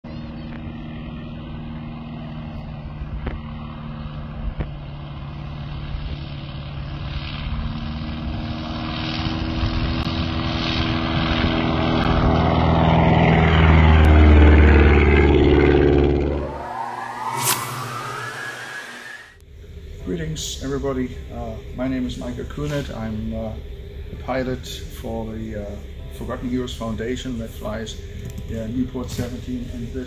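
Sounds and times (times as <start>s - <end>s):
propeller plane engine droning: 0.1s - 30.0s.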